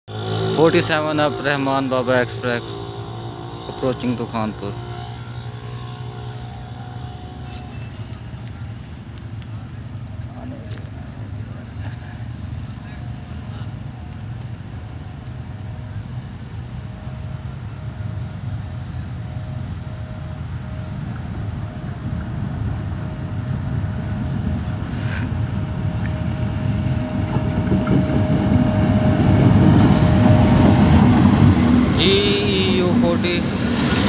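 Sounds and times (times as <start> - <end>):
diesel locomotive engine: 0.1 - 34.0
train rumbling on rails: 0.1 - 34.0.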